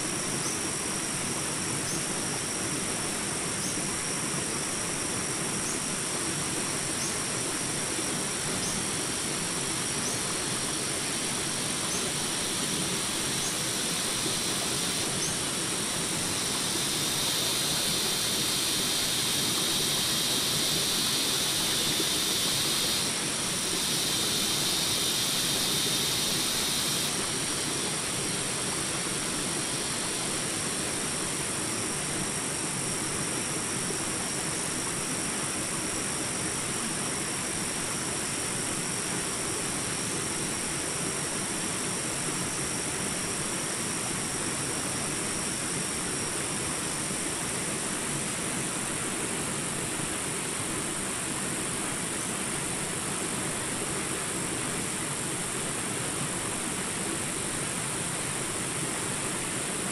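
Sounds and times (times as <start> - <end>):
high steady buzz: 0.0 - 59.9.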